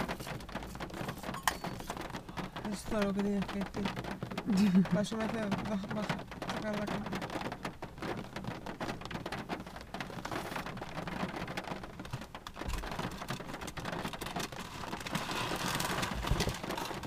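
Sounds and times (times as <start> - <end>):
rain on car roof: 0.0 - 17.0.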